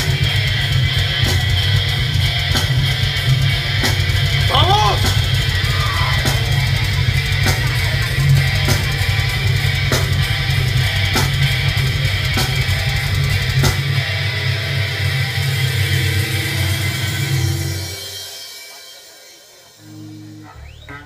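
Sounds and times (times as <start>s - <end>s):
distorted guitars: 0.0s - 18.7s, 19.7s - 21.0s
heavy metal band playing: 0.0s - 18.7s
drums: 0.0s - 21.0s.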